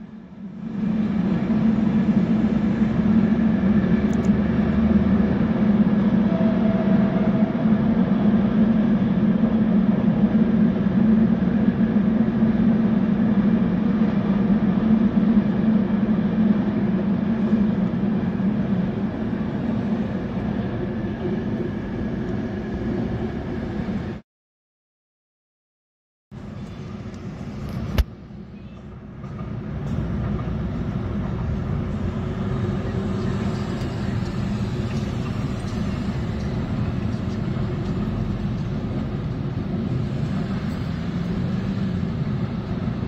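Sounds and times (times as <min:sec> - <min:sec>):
freight train rumbling over viaduct: 0:00.0 - 0:24.2, 0:26.3 - 0:43.0.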